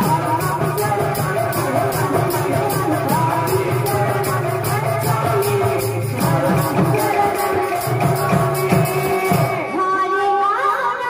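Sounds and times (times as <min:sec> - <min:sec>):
drums: 0:00.0 - 0:10.1.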